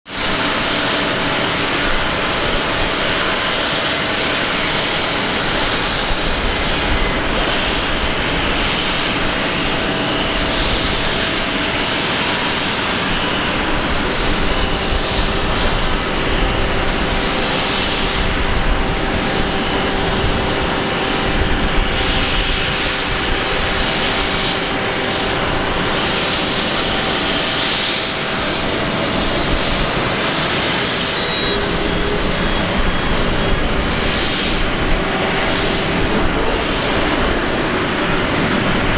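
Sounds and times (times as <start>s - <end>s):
jet engines on landing: 0.0s - 38.9s.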